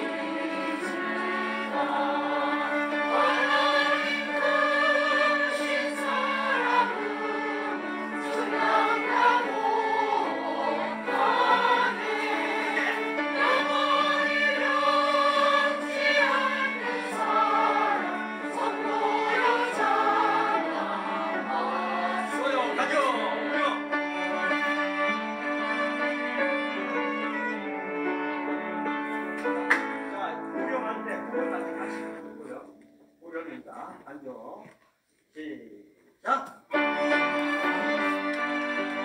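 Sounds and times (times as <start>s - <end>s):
choir singing a hymn: 0.0s - 29.6s, 36.7s - 39.0s.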